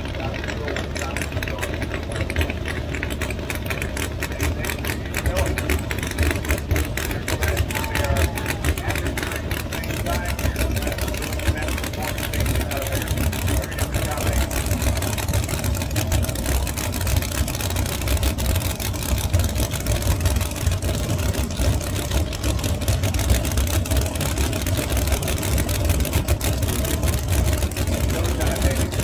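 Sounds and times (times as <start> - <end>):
racing car engines idling: 0.0 - 29.0.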